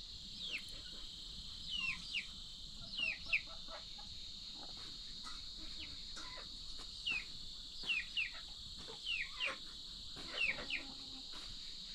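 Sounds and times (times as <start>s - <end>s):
steady high-pitched hiss: 0.0s - 11.9s
birds chirping: 0.3s - 11.1s.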